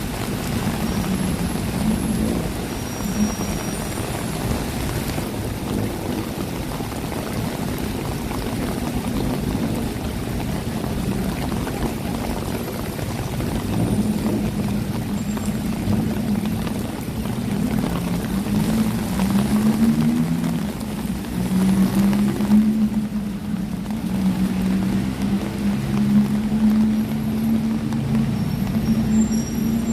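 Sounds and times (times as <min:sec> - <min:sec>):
rain hissing: 0:00.0 - 0:29.9
vehicle engine drone: 0:00.0 - 0:29.9
wet road traffic noise: 0:00.0 - 0:29.9.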